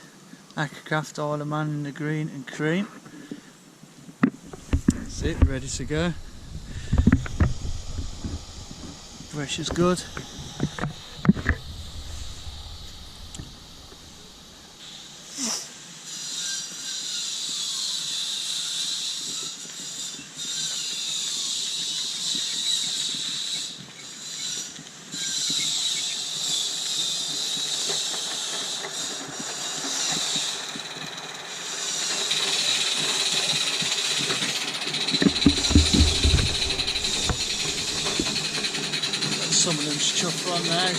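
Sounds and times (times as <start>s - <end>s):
model steam locomotive chuffing: 4.4s - 40.9s.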